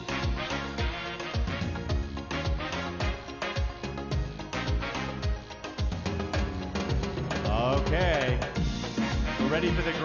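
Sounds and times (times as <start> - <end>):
instrumental music with deep drum beat: 0.0 - 10.0.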